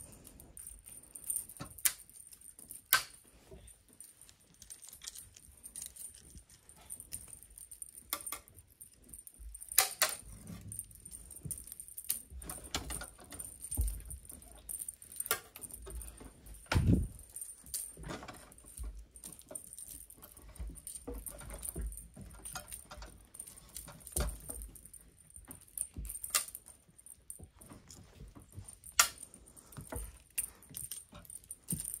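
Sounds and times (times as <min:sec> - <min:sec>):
kitten rustling and scratching: 0:00.0 - 0:32.0.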